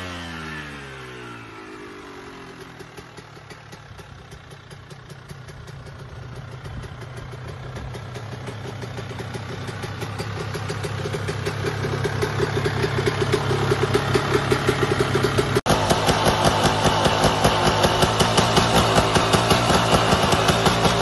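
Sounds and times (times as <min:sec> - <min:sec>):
two-stroke motorbike engine idling: 0:00.0 - 0:21.0.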